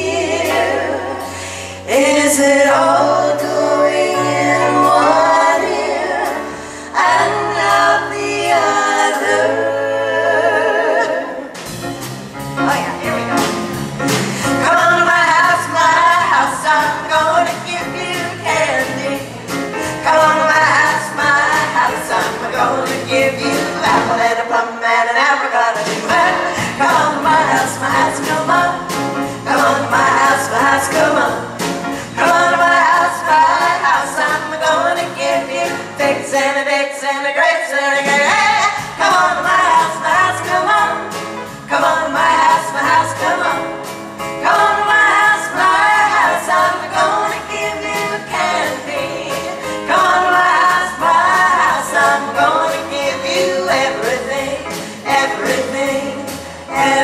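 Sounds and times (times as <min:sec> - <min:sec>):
women singing in close harmony: 0:00.0 - 0:11.6, 0:14.6 - 0:57.0
drums: 0:00.0 - 0:37.1, 0:37.7 - 0:57.0
piano: 0:00.0 - 0:57.0.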